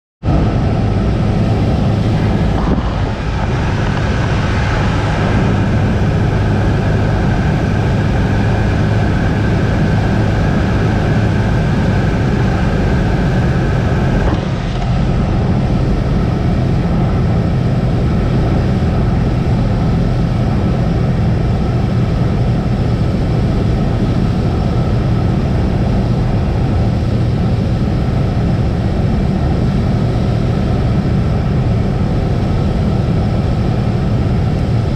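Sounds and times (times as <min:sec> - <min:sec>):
propeller plane engine droning: 0:00.2 - 0:34.9.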